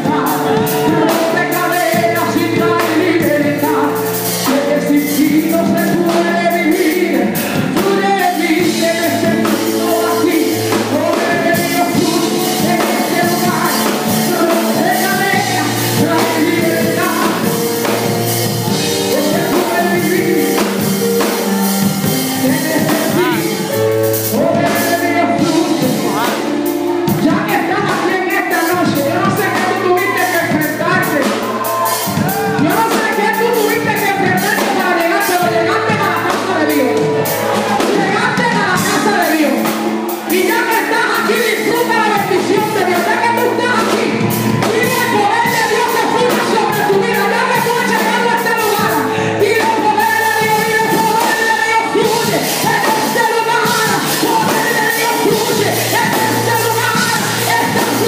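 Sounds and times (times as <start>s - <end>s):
amplified accompaniment: 0.0s - 58.0s
steady percussive beat: 0.0s - 58.0s
women singing worship music: 0.0s - 58.0s.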